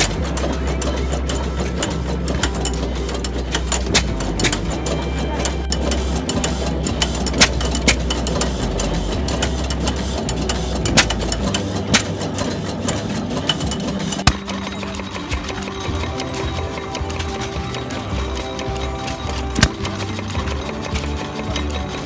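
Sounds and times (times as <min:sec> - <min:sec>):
sharp knocks and clacks: 0:00.0 - 0:22.0
stationary gas engine rumbling: 0:00.0 - 0:22.0.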